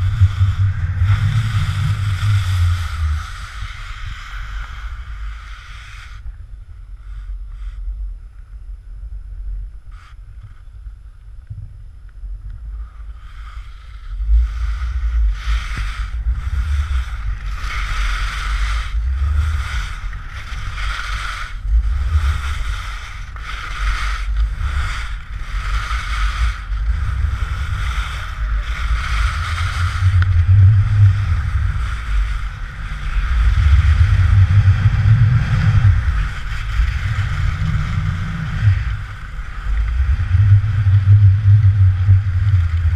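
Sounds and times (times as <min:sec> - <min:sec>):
skis scraping on hard snow: 0:00.0 - 0:06.2, 0:12.8 - 0:42.9
wind noise on microphone: 0:00.0 - 0:42.9.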